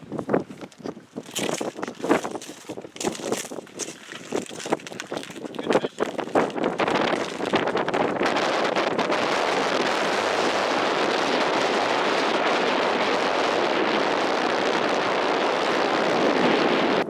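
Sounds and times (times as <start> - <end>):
strong wind roaring: 0.0 - 17.0.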